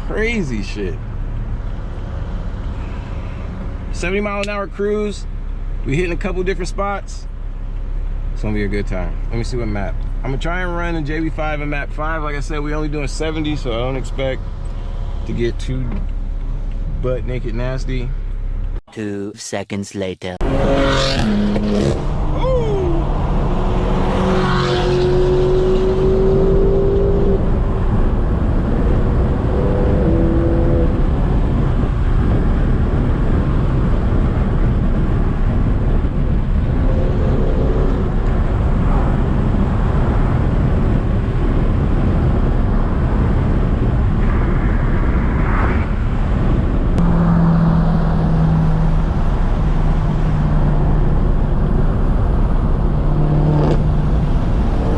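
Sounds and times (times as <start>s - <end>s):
car engine and exhaust drone: 0.0s - 18.8s, 20.4s - 54.9s
road noise: 0.0s - 18.9s, 20.4s - 54.9s.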